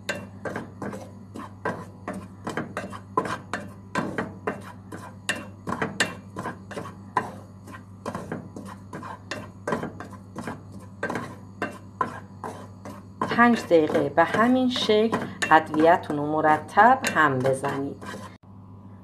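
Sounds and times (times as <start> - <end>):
spoon scraping metal pan: 0.0 - 18.4
steady low hum: 0.0 - 19.0.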